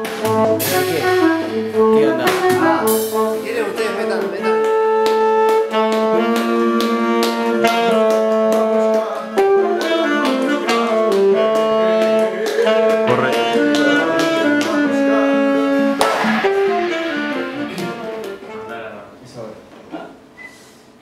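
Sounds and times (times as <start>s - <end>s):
percussion hits: 0.0s - 8.6s, 9.8s - 19.9s
acoustic instrumental melody: 0.0s - 18.9s.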